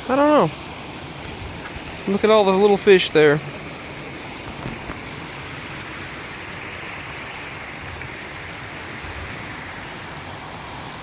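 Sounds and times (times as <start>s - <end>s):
creek water trickling over rocks: 0.0s - 11.0s.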